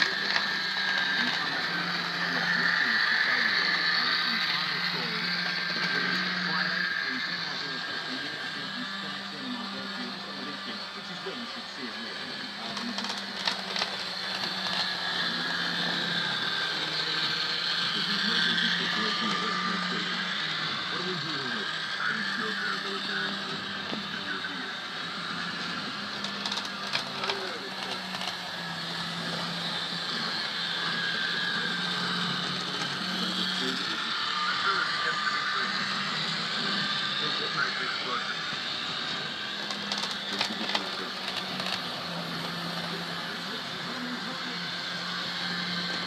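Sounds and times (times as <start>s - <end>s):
model train motor humming: 0.0s - 46.0s.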